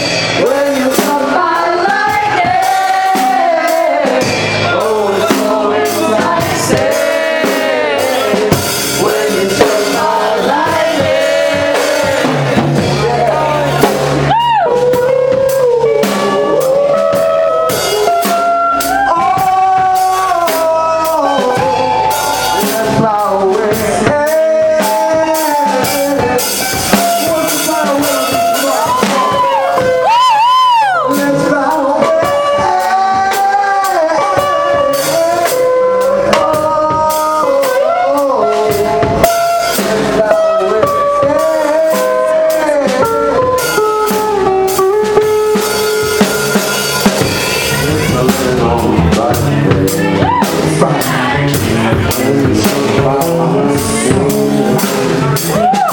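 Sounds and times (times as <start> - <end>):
melodic lead line: 0.0 - 55.8
live band playing: 0.0 - 55.9.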